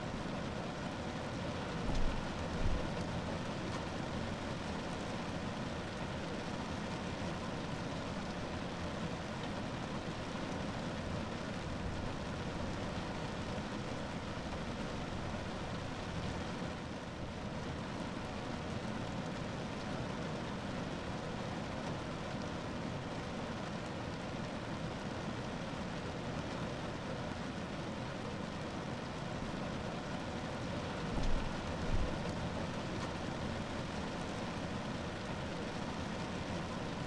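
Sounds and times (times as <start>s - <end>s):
rain on a car roof: 0.0s - 37.0s.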